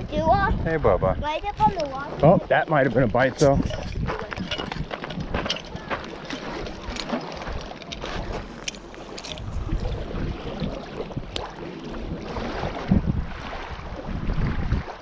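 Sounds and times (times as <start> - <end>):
wind rumbling on microphone: 0.0 - 15.0
waves lapping on gravel shore: 1.5 - 15.0.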